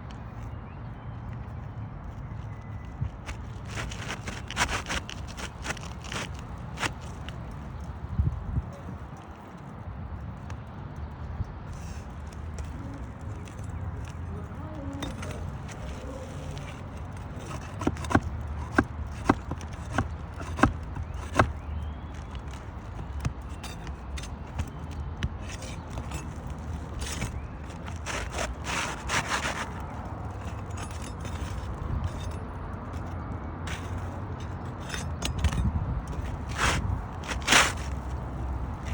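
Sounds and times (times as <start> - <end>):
scraping and rustling over shingles: 1.6 - 10.5, 11.1 - 38.9.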